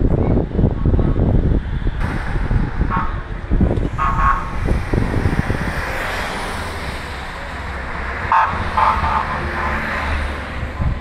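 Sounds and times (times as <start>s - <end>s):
wind buffeting microphone: 0.0s - 11.0s
cars driving past: 0.6s - 11.0s.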